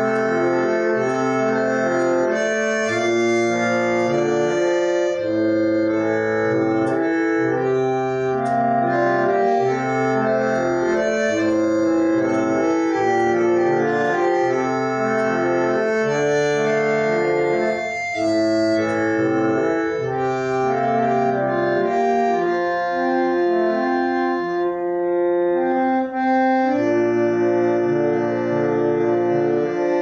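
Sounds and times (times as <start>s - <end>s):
organ melody over chords: 0.0s - 30.0s.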